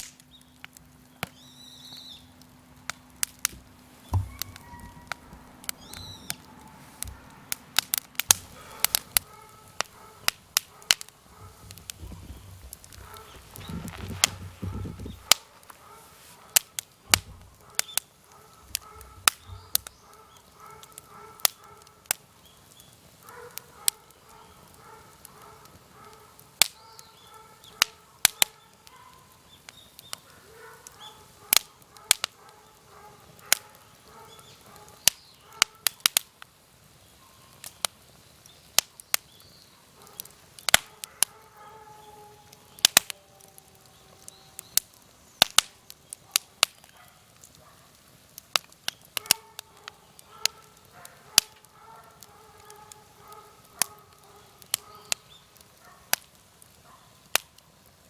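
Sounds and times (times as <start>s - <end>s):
firewood cracking: 0.0s - 58.0s.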